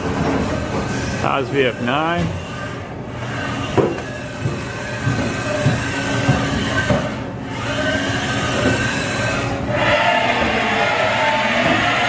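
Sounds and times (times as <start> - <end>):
powered machinery whining: 0.0 - 12.0.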